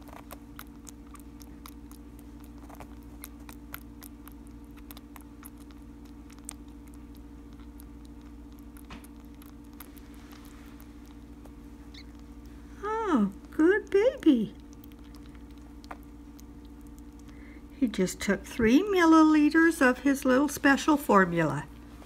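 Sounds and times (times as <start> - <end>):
baby rabbit suckling wet clicks: 0.0 - 20.9
low hum: 0.0 - 22.0.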